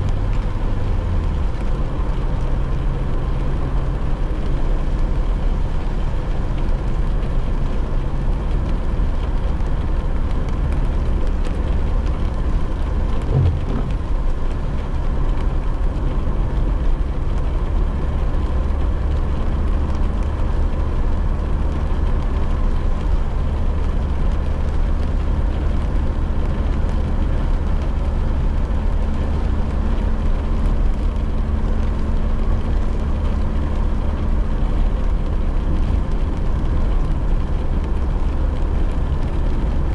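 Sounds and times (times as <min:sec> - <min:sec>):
car engine and tyre rumble: 0:00.0 - 0:39.9
faint hiss of rain: 0:00.0 - 0:39.9.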